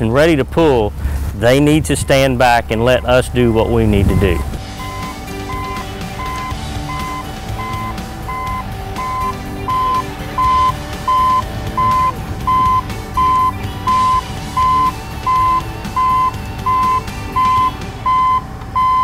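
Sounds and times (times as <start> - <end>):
faint background music: 0.0 - 19.0
low engine rumble: 0.0 - 19.0
reversing alarm beeping: 1.6 - 19.0.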